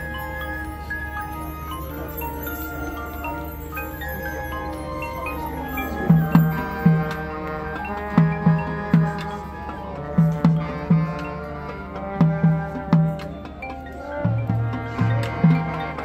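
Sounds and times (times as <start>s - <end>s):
marching band held chords: 0.0s - 16.0s.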